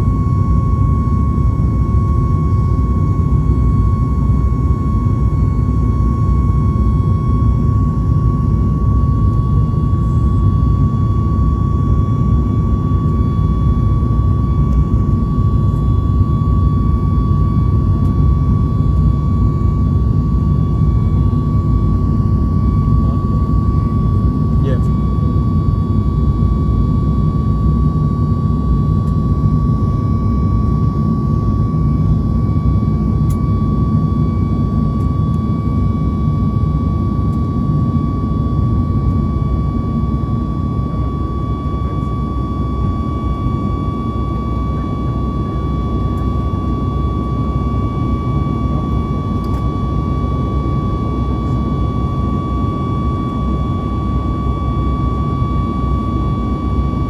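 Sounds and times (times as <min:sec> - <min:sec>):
constant high whine: 0:00.0 - 0:57.0
jet engine and airflow rumble: 0:00.0 - 0:57.0.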